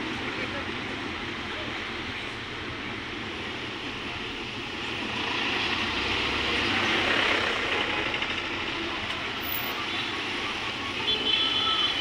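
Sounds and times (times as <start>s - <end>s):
tyres hissing on wet road: 0.1s - 12.0s.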